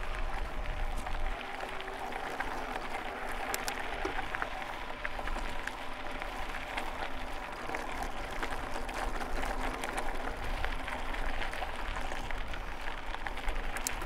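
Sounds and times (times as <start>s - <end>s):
electric motor hum: 0.0s - 14.0s
tyres crunching on gravel: 0.0s - 14.0s.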